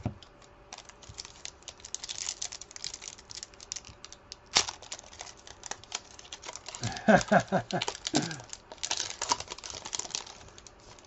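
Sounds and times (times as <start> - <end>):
wrapper crackling and tearing: 0.4 - 11.0.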